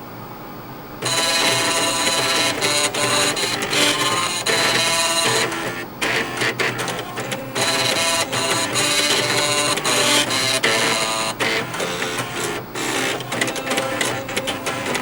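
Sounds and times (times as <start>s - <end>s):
floppy disk drives playing melody: 1.0s - 15.0s.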